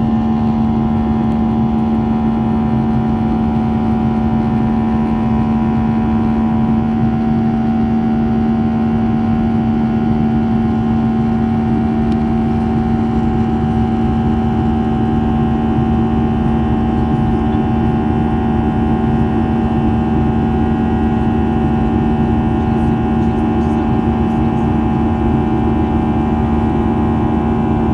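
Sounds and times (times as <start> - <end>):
jet engine cabin drone: 0.0 - 27.9.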